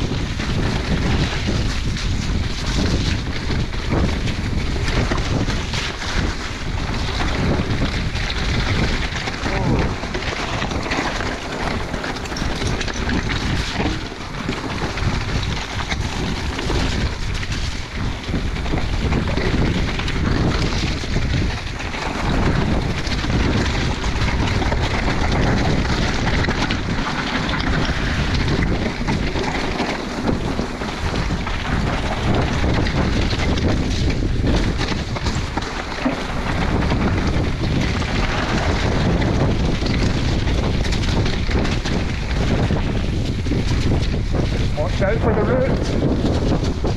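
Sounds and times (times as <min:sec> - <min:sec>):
bike rattling and knocking: 0:00.0 - 0:46.9
bike tyre rumble: 0:00.0 - 0:46.9
wind buffeting microphone: 0:00.0 - 0:46.9.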